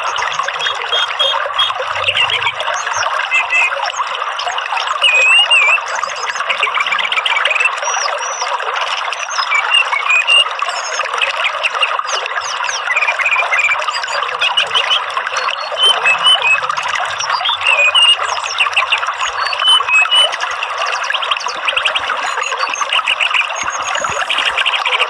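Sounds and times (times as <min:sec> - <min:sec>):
thrush whistling and chirping: 0:00.0 - 0:04.1, 0:04.8 - 0:08.5, 0:09.2 - 0:25.0
running water: 0:00.0 - 0:25.0.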